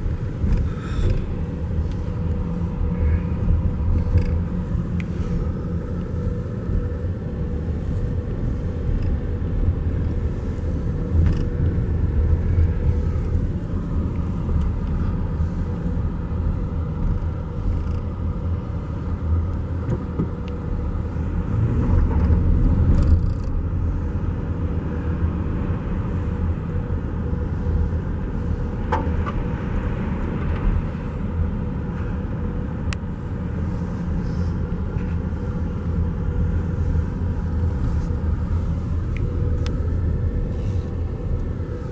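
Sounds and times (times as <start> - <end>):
vehicle rumbling on rough road: 0.0 - 41.9.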